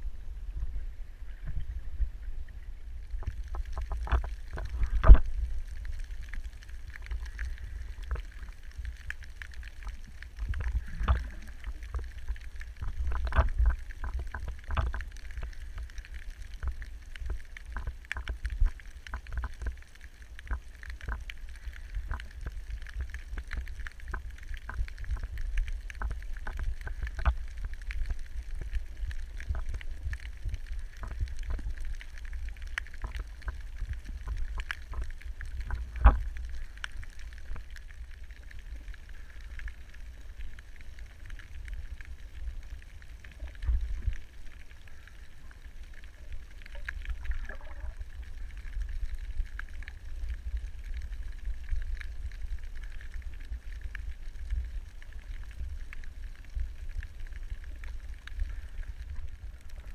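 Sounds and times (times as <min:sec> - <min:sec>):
underwater clicks and crackles: 0:00.0 - 0:59.9
underwater water rumble: 0:00.0 - 0:59.9.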